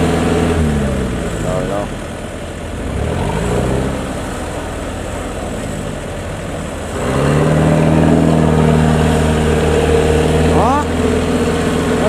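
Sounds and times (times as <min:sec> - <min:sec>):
tractor engine straining: 0:00.0 - 0:12.0.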